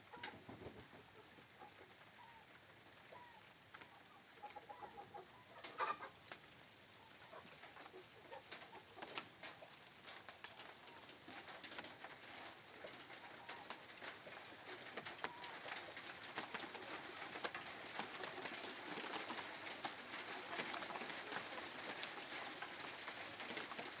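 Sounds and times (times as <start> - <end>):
rain falling steadily: 0.0 - 24.0
raindrops ticking nearby: 0.0 - 24.0.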